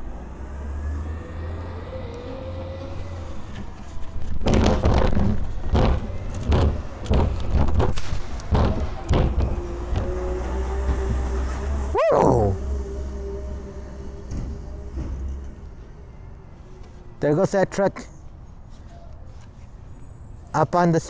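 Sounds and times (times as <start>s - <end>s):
distant truck engine hum: 0.0s - 17.4s.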